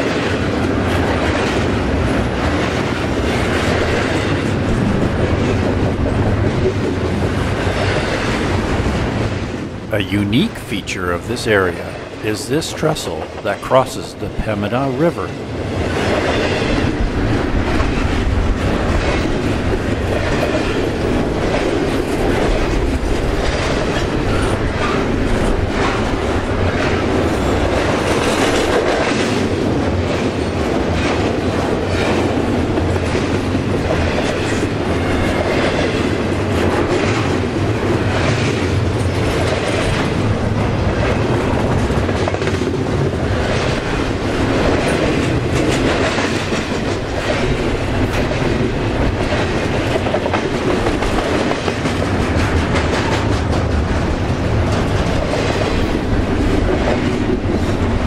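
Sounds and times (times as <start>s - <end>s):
freight train rumbling on trestle: 0.0s - 58.0s.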